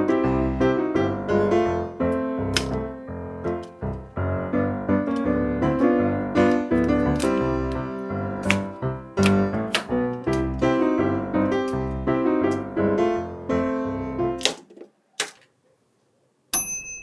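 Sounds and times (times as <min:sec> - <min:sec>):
silent-film style piano music: 0:00.0 - 0:14.5.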